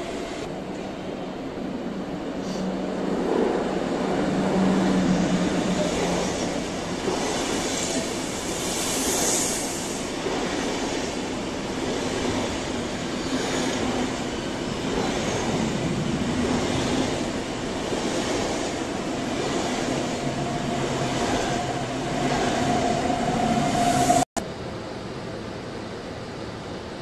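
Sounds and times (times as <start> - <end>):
train wheels rumbling on rails: 2.2 - 24.2.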